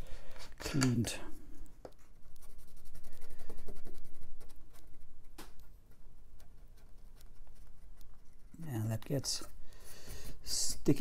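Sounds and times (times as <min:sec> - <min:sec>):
cotton swab scratching plastic: 0:00.0 - 0:11.0.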